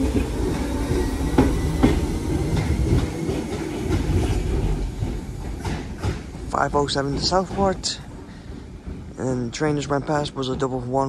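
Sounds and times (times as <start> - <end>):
train rumbling past: 0.0 - 11.0
wheels clicking over rail joints: 0.0 - 11.0.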